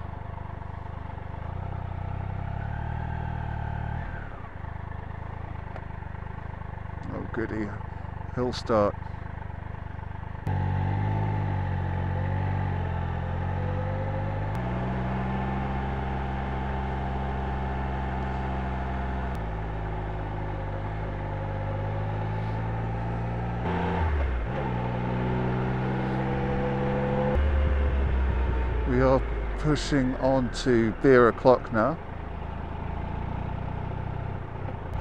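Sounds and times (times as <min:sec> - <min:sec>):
motorcycle engine under load: 0:00.0 - 0:35.0
road and wind noise: 0:00.0 - 0:35.0.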